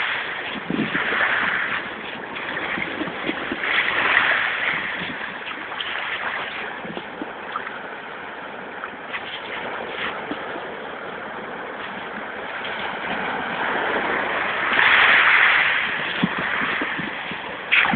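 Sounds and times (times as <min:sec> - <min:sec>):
seawater splashing and washing: 0:00.0 - 0:17.9.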